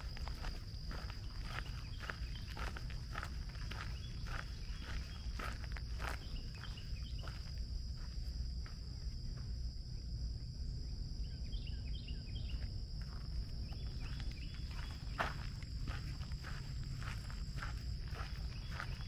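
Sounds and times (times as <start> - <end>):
birds chirping: 0.0 - 7.6, 10.8 - 19.0
footsteps on dirt trail: 0.0 - 9.8, 12.4 - 19.0
high-pitched insect drone: 0.0 - 19.0
steady low rumble: 0.0 - 19.0.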